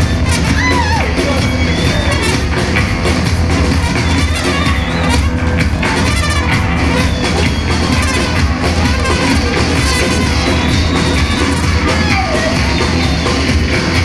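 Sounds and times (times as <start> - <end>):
drifting tones: 0.0 - 14.0
heavy low rumble: 0.0 - 14.0
wall of distorted noise: 0.0 - 14.0.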